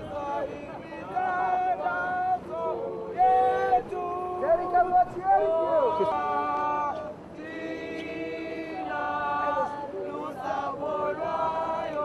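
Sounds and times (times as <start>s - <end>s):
voices singing unaccompanied: 0.0s - 12.0s.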